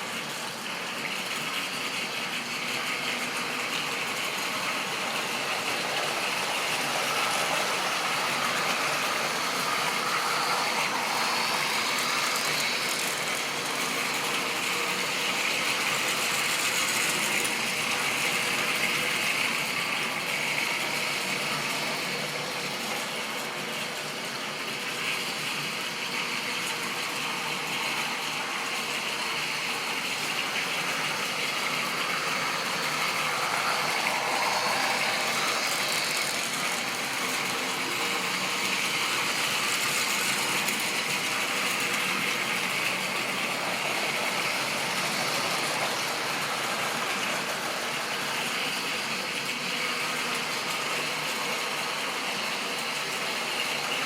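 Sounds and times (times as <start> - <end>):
model train whirring and rattling: 0.0 - 54.0.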